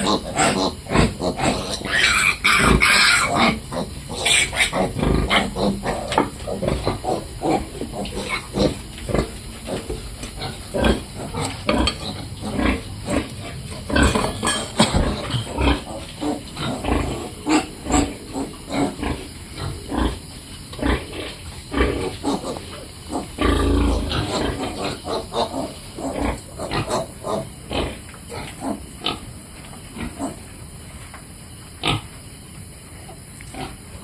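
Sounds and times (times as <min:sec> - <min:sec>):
piglets grunting: 0:00.0 - 0:20.2, 0:21.7 - 0:29.2.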